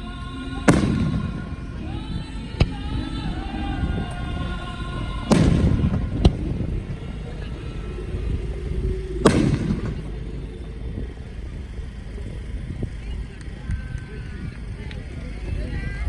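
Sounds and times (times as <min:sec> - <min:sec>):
sharp crack: 0:00.0 - 0:15.3
firework shells booming: 0:00.0 - 0:15.4
steady low rumble: 0:00.0 - 0:16.0.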